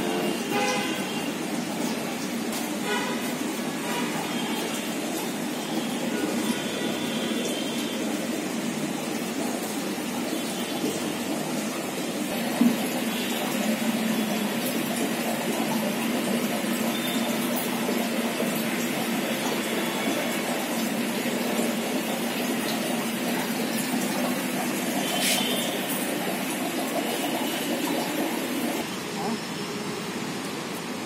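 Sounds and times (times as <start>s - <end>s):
aquarium water and pump noise: 0.0s - 31.0s.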